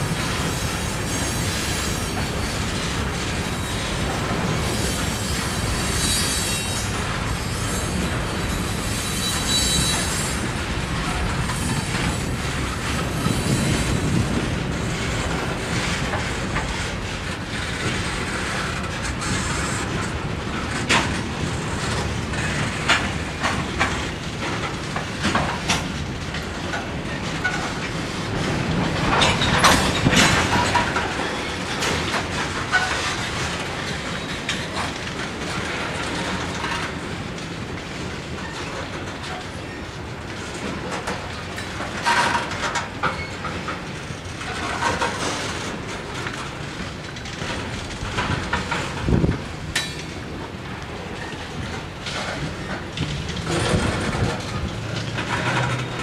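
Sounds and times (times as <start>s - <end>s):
freight train wheels rumbling: 0.0s - 56.0s
wheels clacking over rail joints: 0.0s - 56.0s.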